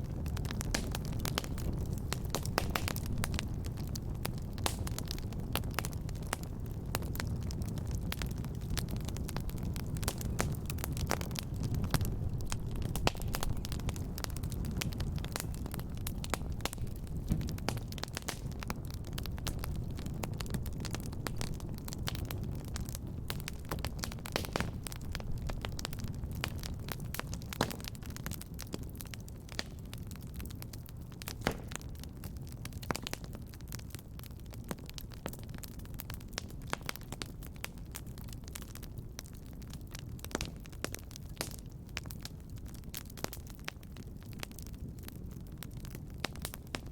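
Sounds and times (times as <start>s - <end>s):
fire crackling and popping: 0.0s - 46.9s
low fire rumble: 0.0s - 46.9s
low roar of flames: 0.0s - 46.9s.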